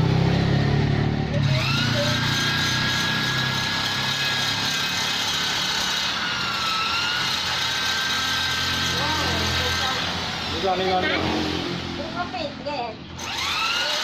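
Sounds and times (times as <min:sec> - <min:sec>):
rotary grinder grinding metal: 0:01.3 - 0:14.0.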